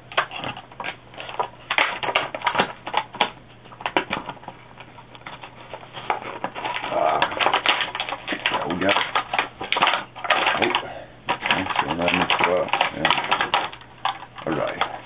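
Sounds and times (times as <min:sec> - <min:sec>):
stiff packaging crackling: 0:00.0 - 0:15.0.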